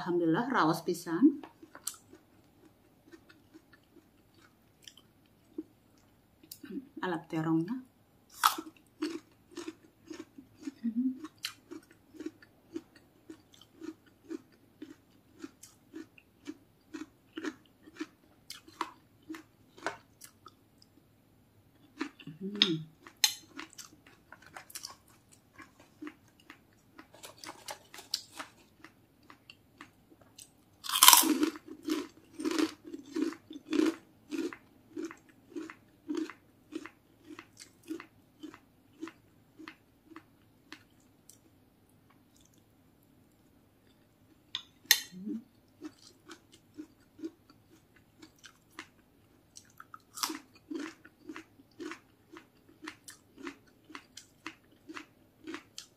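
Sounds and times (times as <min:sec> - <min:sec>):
person chewing with crunching: 0:01.4 - 0:06.8, 0:08.3 - 0:21.0, 0:21.7 - 0:42.7, 0:43.4 - 0:55.9.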